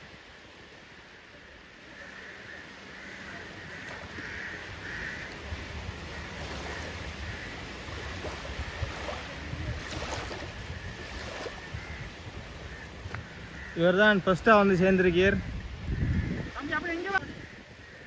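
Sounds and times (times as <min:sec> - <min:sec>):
sea waves washing onto shore: 0:00.0 - 0:18.0
wind buffeting microphone: 0:03.3 - 0:18.0.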